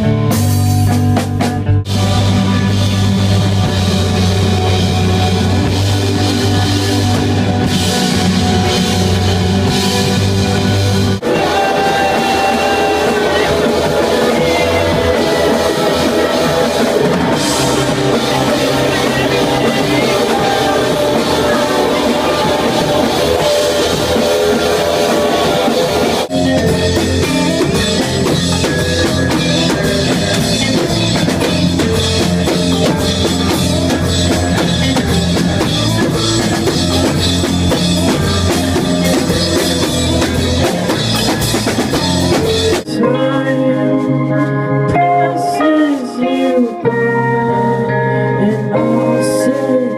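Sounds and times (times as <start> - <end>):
live rock band playing: 0.0 - 49.9.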